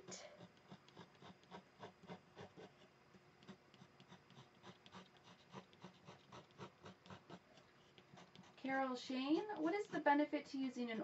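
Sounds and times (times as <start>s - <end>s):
pencil scratching on paper: 0.2s - 10.3s.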